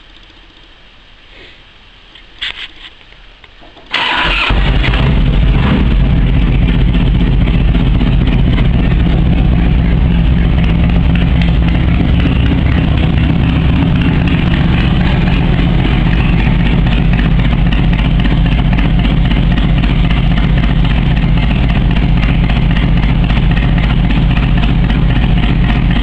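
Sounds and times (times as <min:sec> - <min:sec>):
motorcycle engine idling: 0:04.0 - 0:26.0.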